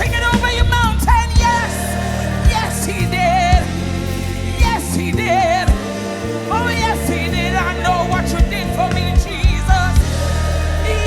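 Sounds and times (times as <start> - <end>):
band holding low chords: 0.0 - 11.0
wordless singing with vibrato: 0.0 - 11.0.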